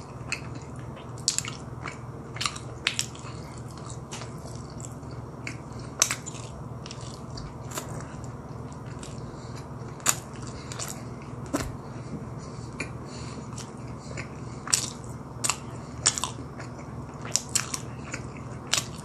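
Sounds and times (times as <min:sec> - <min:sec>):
chewing and biting pastry: 0:00.0 - 0:19.0.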